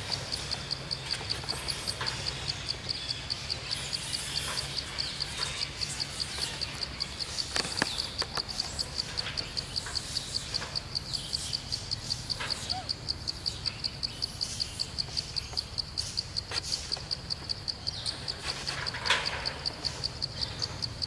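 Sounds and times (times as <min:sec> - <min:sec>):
insect chirping: 0:00.0 - 0:21.0
sharp clicks: 0:00.0 - 0:21.0.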